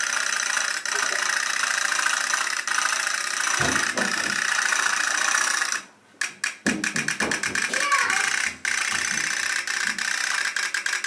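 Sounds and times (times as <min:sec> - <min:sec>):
pop-pop toy boat engine: 0:00.0 - 0:11.0.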